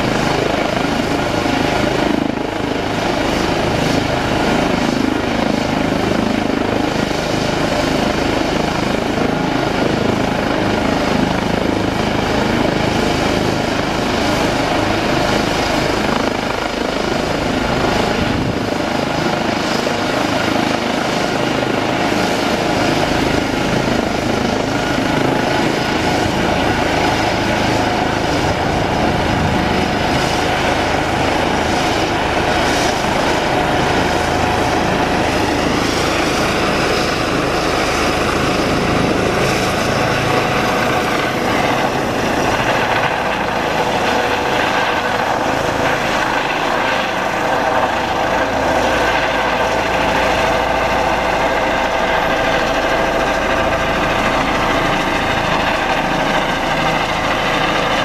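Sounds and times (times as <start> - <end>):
helicopter rotor noise: 0.0 - 58.0
helicopter turbine whine: 0.0 - 58.0.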